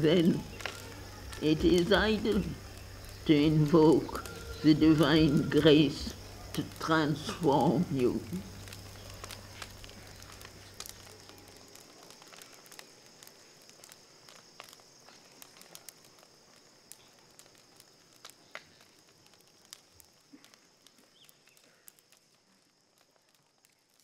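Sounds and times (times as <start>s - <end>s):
bonfire crackling and popping: 0.0s - 24.0s.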